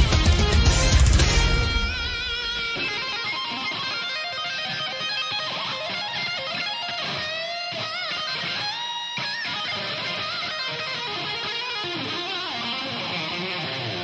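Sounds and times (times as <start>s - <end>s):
electric guitar lead line: 0.0s - 14.0s.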